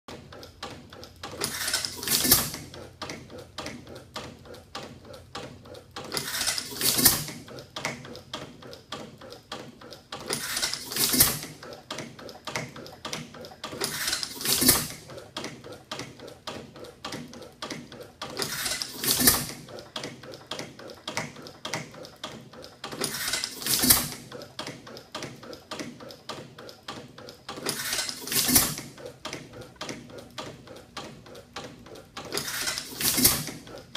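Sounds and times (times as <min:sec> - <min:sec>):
engine clicking while coasting: 0:00.1 - 0:33.9.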